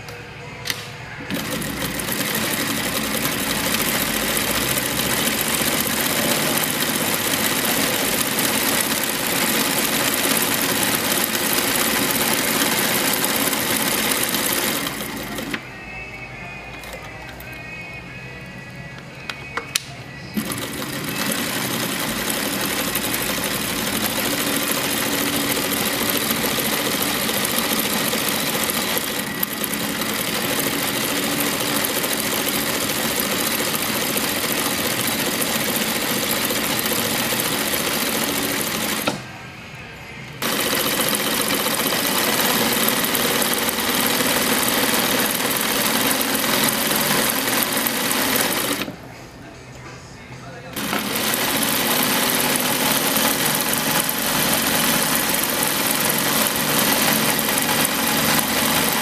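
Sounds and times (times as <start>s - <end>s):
sewing machine stitching: 1.2s - 15.6s, 20.4s - 39.2s, 40.4s - 49.0s, 50.7s - 59.0s.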